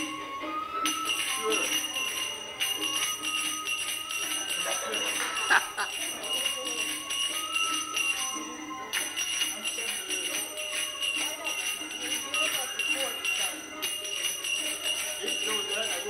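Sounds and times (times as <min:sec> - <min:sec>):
music: 0:00.0 - 0:16.0
coin costume jingling: 0:00.9 - 0:16.0.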